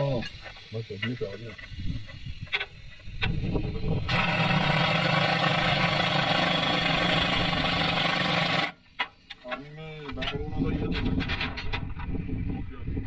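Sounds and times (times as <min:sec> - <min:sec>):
machine running with hum and hiss: 0:00.0 - 0:11.5.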